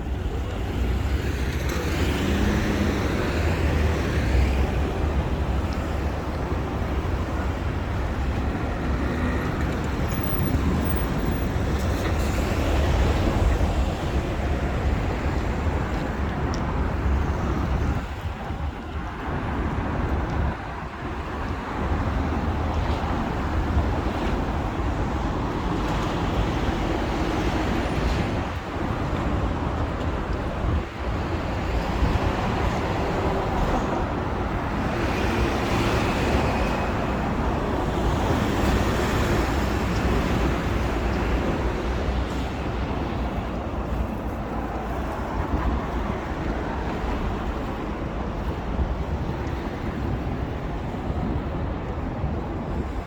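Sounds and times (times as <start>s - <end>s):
city road traffic rumble: 0.0s - 53.0s.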